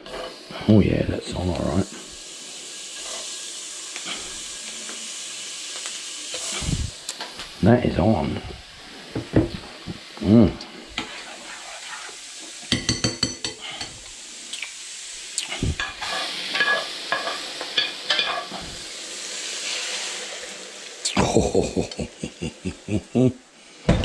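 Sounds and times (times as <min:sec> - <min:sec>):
butter sizzling in frying pan: 0:00.0 - 0:23.9.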